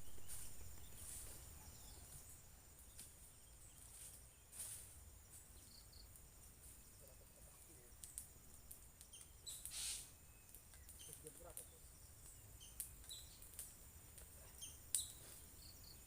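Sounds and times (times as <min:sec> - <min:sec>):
high-pitched insect trill: 0:00.0 - 0:16.0
soft hissy sounds: 0:00.0 - 0:16.0.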